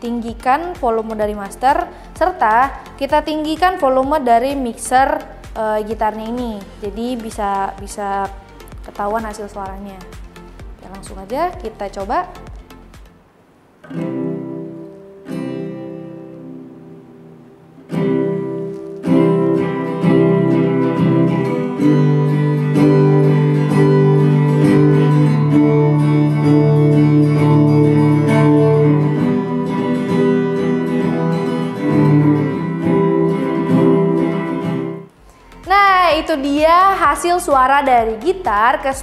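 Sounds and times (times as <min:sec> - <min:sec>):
amplified acoustic guitar strumming: 0:00.0 - 0:38.3.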